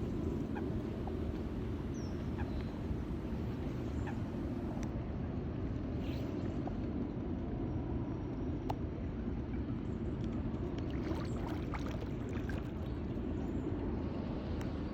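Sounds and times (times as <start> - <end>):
low rumble of park ambience: 0.0 - 14.9.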